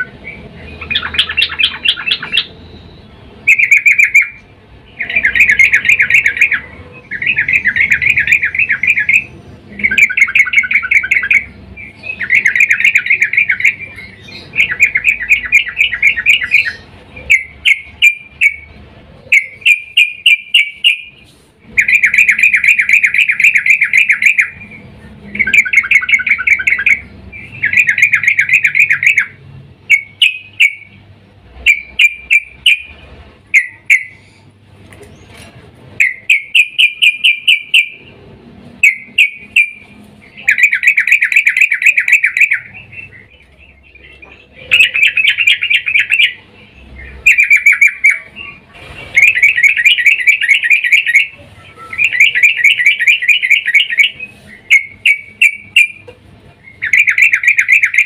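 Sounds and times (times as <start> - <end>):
bird call with rapid sharp notes: 0.0 - 31.0, 31.6 - 34.4, 36.0 - 38.1, 38.8 - 58.0.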